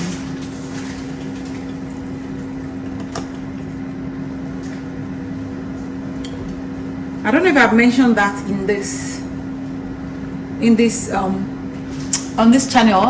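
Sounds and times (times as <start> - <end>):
appliance motor humming: 0.0 - 11.9.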